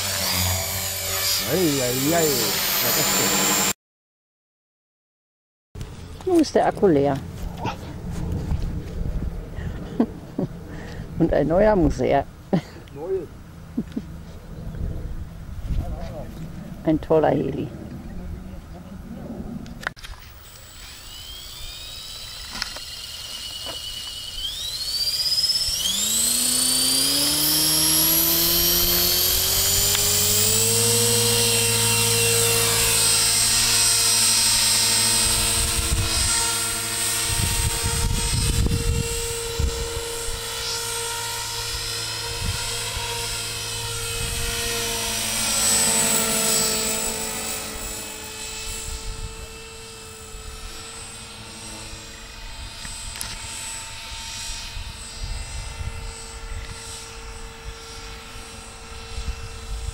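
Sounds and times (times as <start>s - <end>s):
model helicopter rotor whine: 0.0s - 3.8s, 5.8s - 59.9s.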